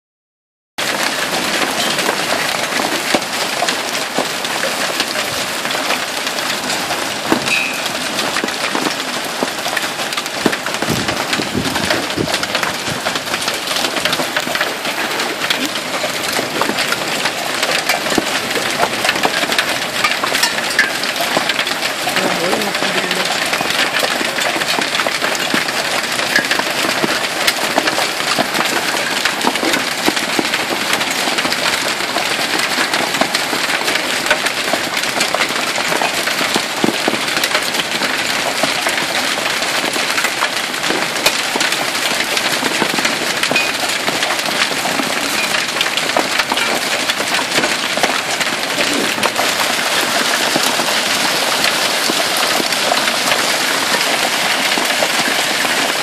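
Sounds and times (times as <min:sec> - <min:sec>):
hailstones pelting down: 0:00.8 - 0:56.0.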